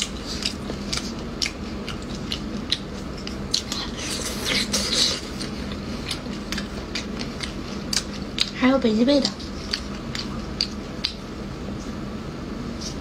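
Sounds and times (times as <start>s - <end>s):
wet chewing: 0.0s - 12.0s
faint steady hum: 0.0s - 13.0s.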